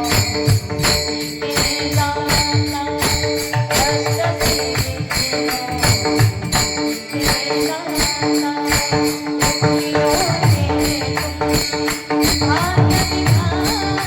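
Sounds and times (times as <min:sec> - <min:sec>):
drum beats: 0:00.0 - 0:14.0
metal cymbals jingling: 0:00.0 - 0:14.0.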